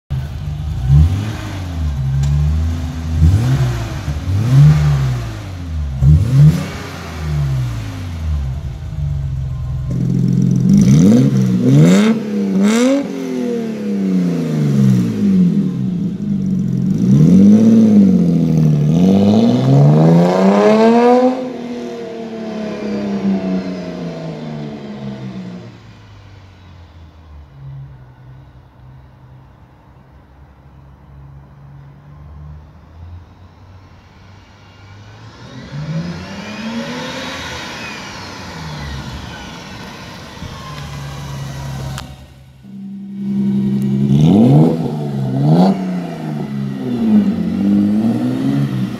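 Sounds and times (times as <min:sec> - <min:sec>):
car engine revving: 0:00.1 - 0:26.2, 0:34.9 - 0:48.9.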